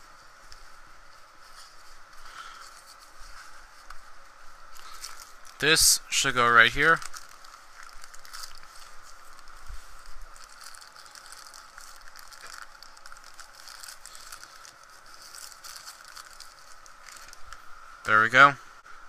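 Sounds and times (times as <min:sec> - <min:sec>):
fabric rustling: 0:00.0 - 0:05.7, 0:06.8 - 0:17.7.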